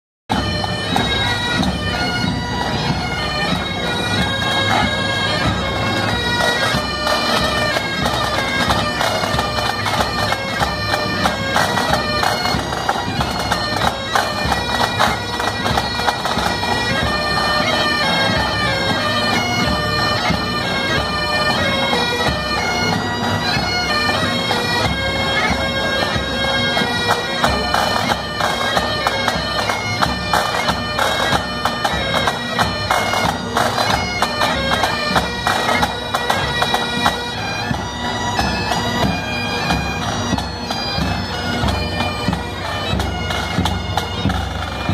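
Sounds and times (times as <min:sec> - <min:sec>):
bagpipes playing: 0:00.3 - 0:44.9.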